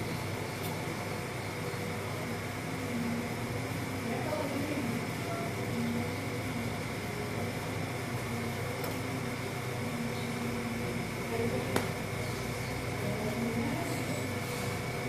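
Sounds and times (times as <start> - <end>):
room hum with high tone: 0.0 - 15.0.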